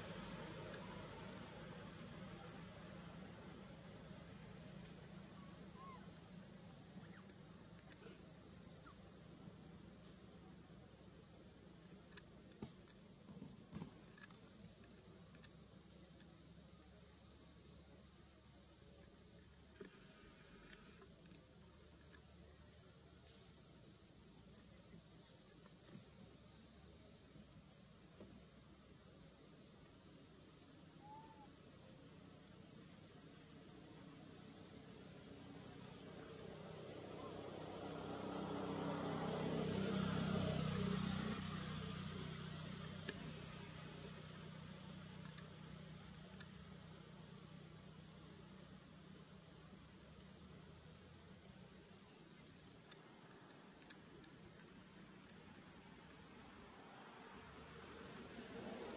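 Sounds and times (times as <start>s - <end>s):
insect chorus drone: 0.0s - 58.9s.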